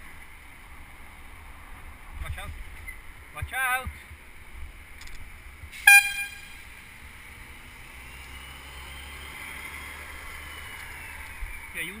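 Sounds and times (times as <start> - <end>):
low rumble of wind and traffic: 0.0 - 12.0.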